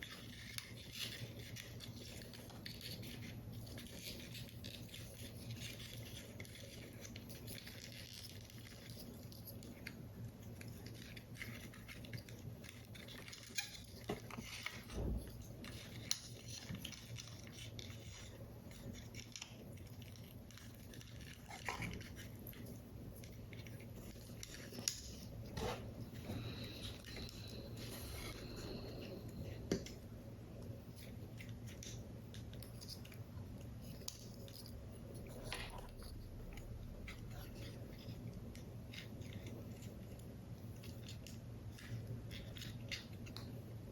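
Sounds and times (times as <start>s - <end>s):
paper rustling: 0.0s - 43.6s
low steady hum: 0.0s - 43.9s.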